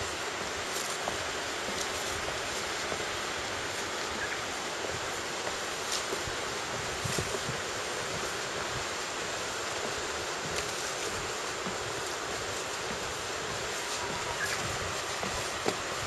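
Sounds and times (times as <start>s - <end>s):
footsteps on wooden boardwalk: 0.0s - 16.0s
steady rushing hiss: 0.0s - 16.0s.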